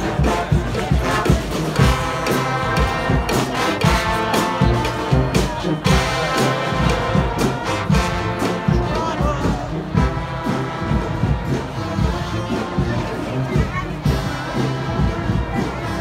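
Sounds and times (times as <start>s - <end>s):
brass band playing: 0.0s - 16.0s
drums: 0.0s - 16.0s.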